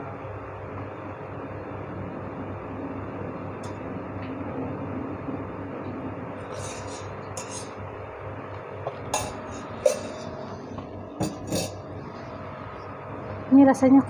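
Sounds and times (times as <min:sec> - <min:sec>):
gas stove burner hissing: 0:00.0 - 0:13.5.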